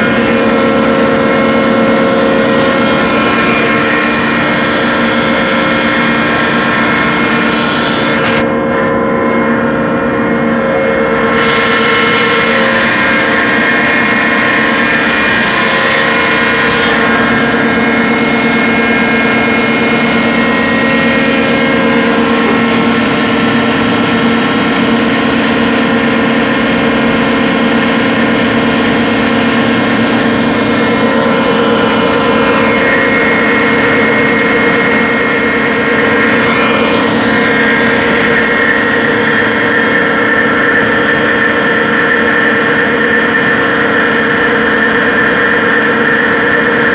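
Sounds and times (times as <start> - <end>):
drilling rig mechanical drone: 0.0 - 46.9
steady whining tones: 0.0 - 46.9.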